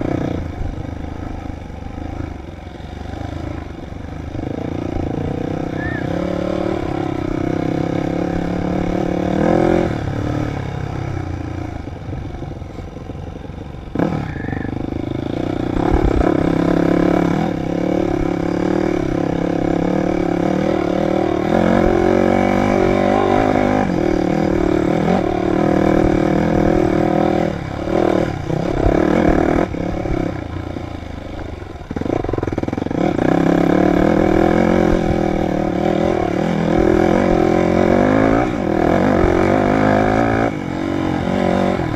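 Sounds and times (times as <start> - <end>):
dirt bike engine revving: 0.0 - 11.8, 13.9 - 41.9.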